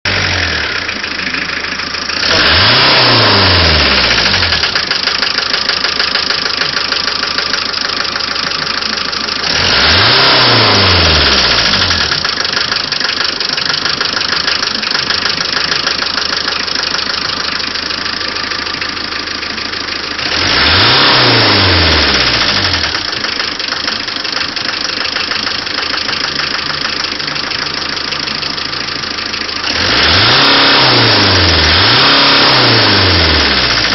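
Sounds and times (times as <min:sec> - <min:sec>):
diesel engine idling with knock: 0:00.1 - 0:20.8, 0:21.4 - 0:30.2
engine revving: 0:00.1 - 0:33.9.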